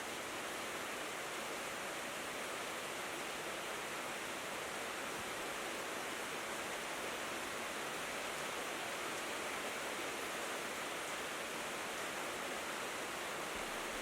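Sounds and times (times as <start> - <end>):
rain on a tin roof: 0.0 - 14.0.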